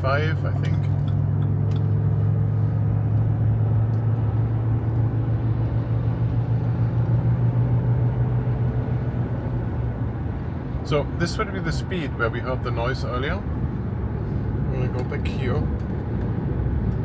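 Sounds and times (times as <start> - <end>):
road and wind noise in car: 0.0 - 17.0.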